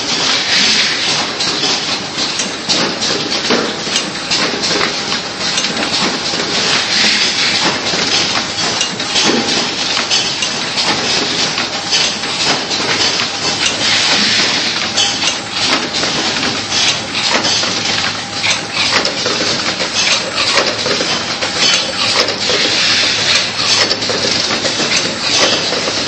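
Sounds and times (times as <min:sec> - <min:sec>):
cartoning machine clattering: 0:00.0 - 0:26.0.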